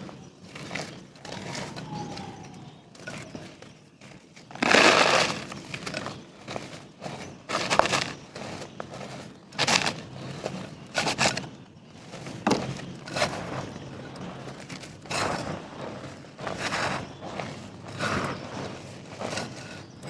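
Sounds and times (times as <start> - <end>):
dry mud crunching: 0.0 - 20.0.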